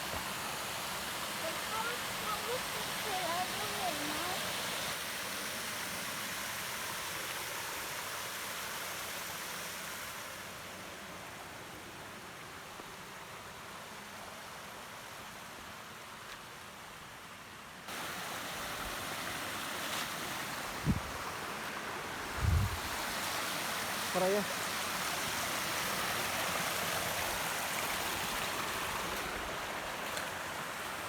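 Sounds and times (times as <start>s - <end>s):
rushing river and waterfall: 0.0s - 31.0s.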